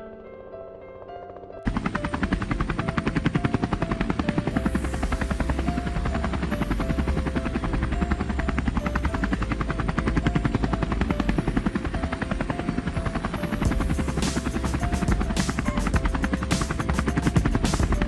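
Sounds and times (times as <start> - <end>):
helicopter rotor chopping: 1.6 - 18.0.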